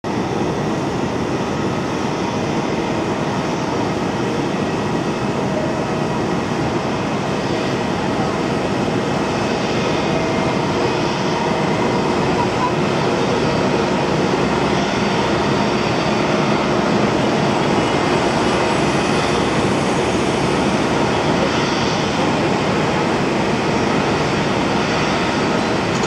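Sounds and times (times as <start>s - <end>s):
jet engines running: 0.1s - 26.0s.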